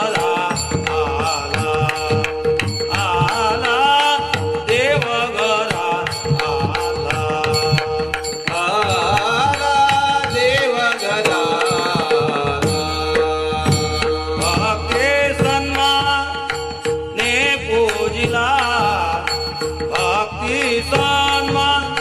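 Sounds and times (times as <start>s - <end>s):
devotional singing: 0.0s - 22.0s.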